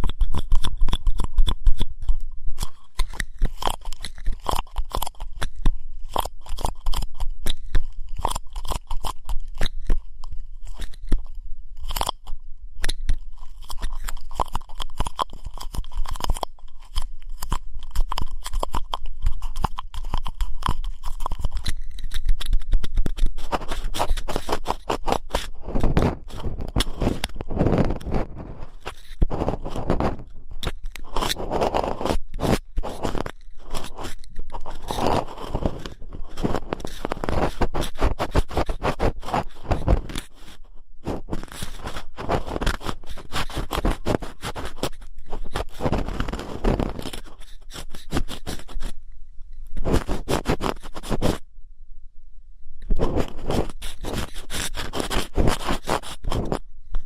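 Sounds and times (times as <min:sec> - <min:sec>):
ear pick scraping: 0:00.0 - 0:51.5, 0:52.8 - 0:57.0.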